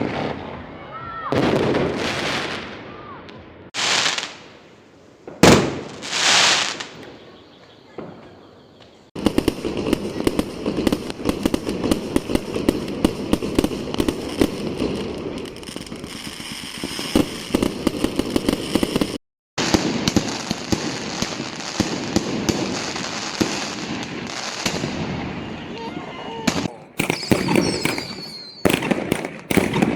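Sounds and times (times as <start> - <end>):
fireworks crackling bangs: 1.3 - 25.6, 26.5 - 29.9.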